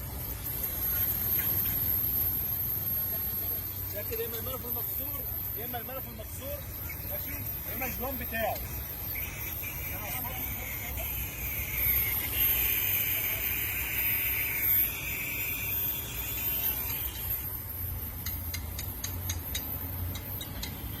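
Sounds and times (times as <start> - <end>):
sharp irregular ticks: 4.0 - 21.0.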